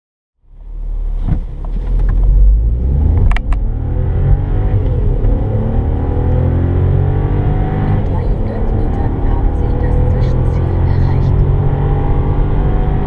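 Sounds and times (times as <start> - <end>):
car engine accelerating hard: 0.5 - 13.0.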